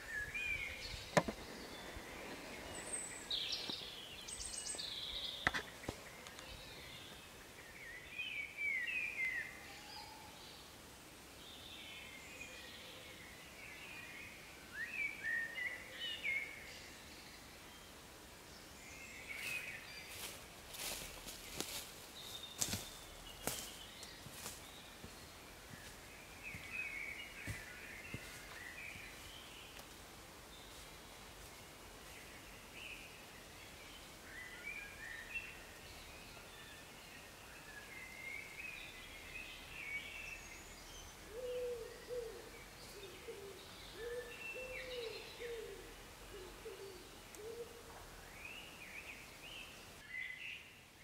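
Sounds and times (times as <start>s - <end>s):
birds singing: 0.0s - 10.8s, 18.6s - 29.9s, 30.5s - 50.9s.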